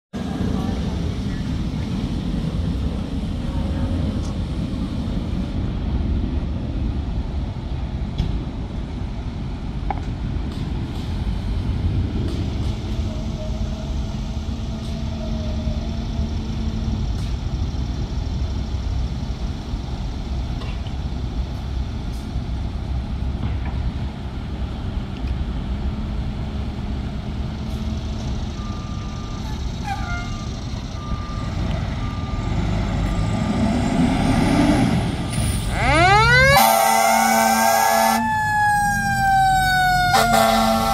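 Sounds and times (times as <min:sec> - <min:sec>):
vehicle engines idling: 0:00.2 - 0:40.9.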